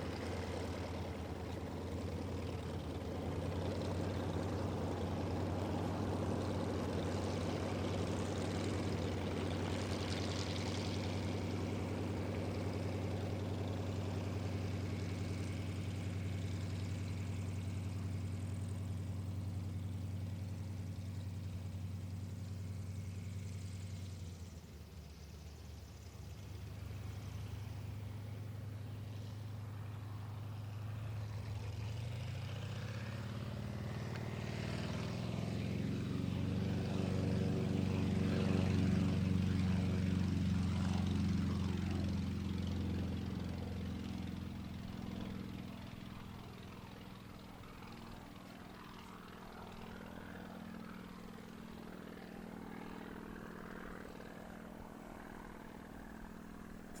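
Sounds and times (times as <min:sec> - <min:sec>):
radial engine and propeller: 0:00.0 - 0:57.0.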